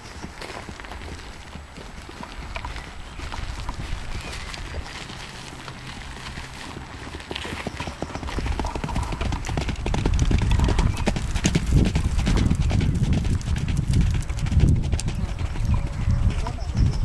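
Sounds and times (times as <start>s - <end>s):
horse hoofbeats on gravel: 0.0s - 17.0s.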